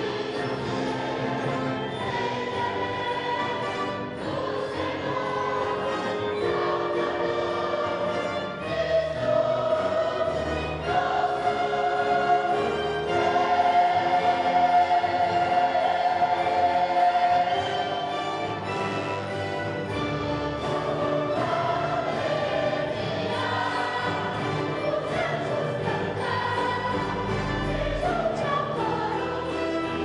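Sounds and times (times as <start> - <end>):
choir singing: 0.0 - 30.0
wind band playing: 0.0 - 30.0.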